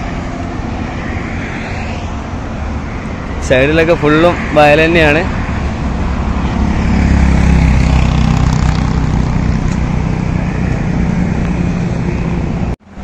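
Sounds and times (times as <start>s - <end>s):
highway traffic drone: 0.0s - 13.0s.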